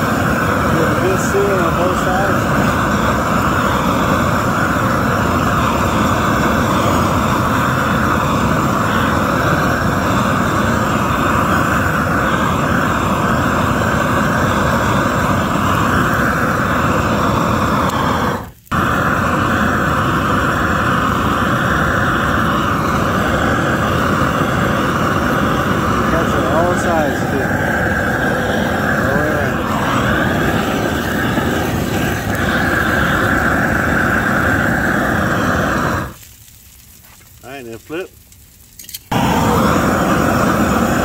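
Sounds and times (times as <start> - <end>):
gas torch flame hissing: 0.0 - 41.0.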